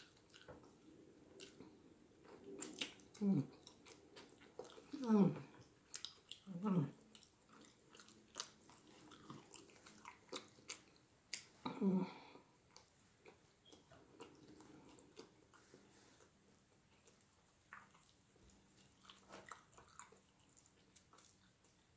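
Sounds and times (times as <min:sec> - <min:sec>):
chewing and mouth smacking: 0:00.0 - 0:11.8, 0:12.6 - 0:21.9.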